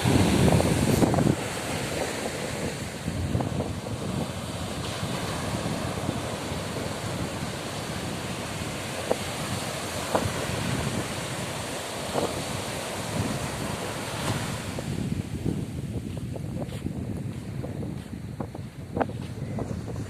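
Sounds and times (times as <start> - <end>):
sea waves washing on shore: 0.0 - 20.0
wind buffeting microphone: 0.0 - 20.0.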